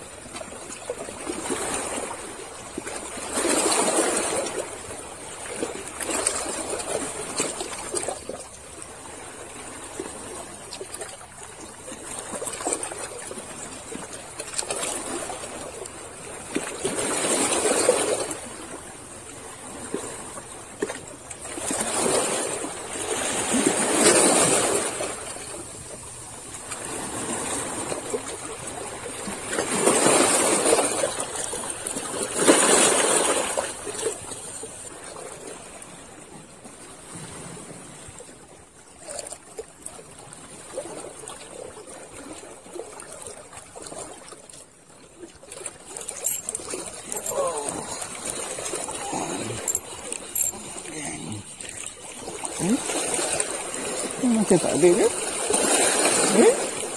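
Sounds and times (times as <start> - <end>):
sea waves splashing on rocks: 0.0 - 38.1, 39.1 - 56.9.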